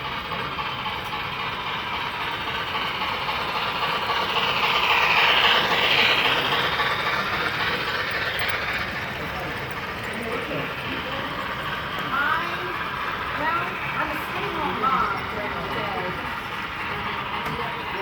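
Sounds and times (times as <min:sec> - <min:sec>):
model train whirring rattle: 0:00.0 - 0:18.0.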